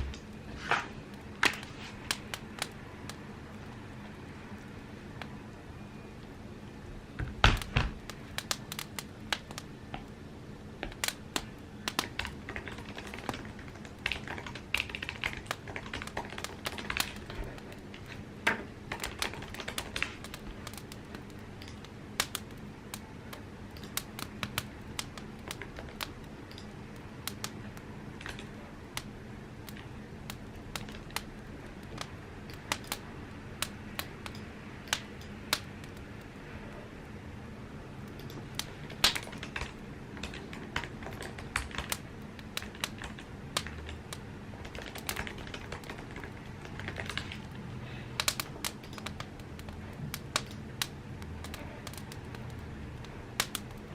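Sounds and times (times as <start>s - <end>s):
low steady hum: 0.0s - 53.9s.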